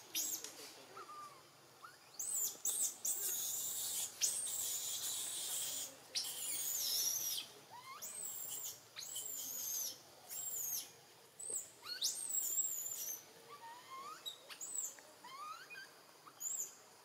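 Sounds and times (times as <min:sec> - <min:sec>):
young macaque screaming: 0:01.0 - 0:10.8, 0:11.9 - 0:16.6.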